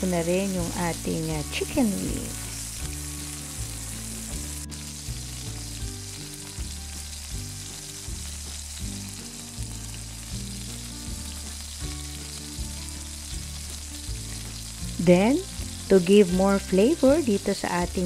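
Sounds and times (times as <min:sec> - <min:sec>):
background music: 0:00.0 - 0:18.0
chicken sizzling in a pan: 0:00.0 - 0:18.0.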